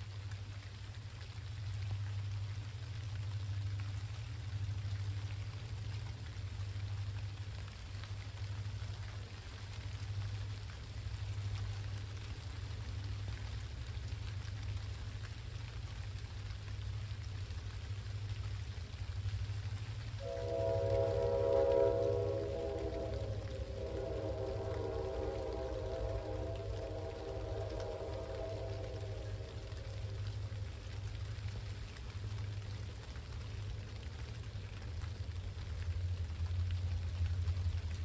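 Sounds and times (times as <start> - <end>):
rain falling: 0.0 - 38.0
low rumble: 1.6 - 38.0.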